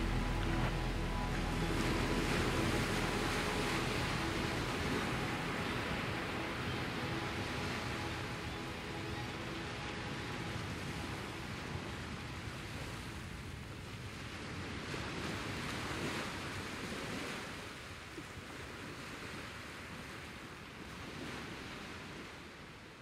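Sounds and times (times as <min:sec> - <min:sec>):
ocean surf washing ashore: 0:00.0 - 0:22.6.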